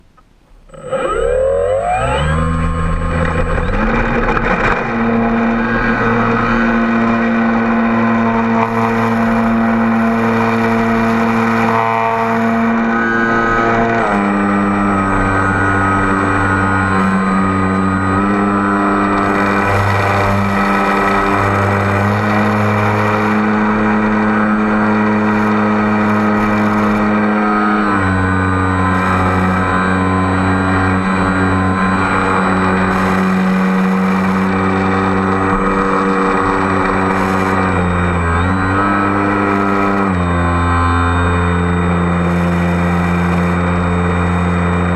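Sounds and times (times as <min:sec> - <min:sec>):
drone propellers whining: 0:00.0 - 0:44.9
gusty wind: 0:00.0 - 0:44.9.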